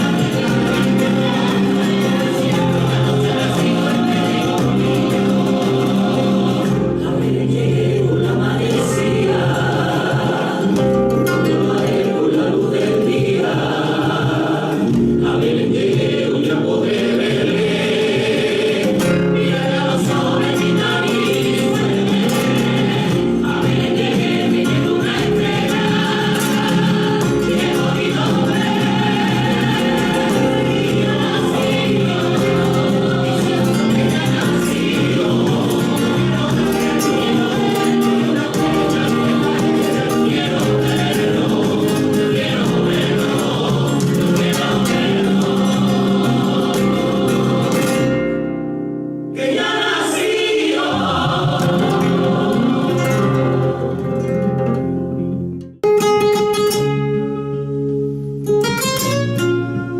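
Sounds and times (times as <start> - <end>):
choir singing a carol: 0.0 - 48.6, 49.3 - 54.8.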